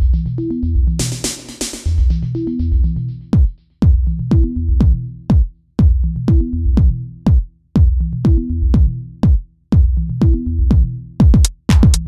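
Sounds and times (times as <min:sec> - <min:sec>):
drum machine kick beat: 0:00.0 - 0:12.0
electronic music with deep bass: 0:00.0 - 0:12.0.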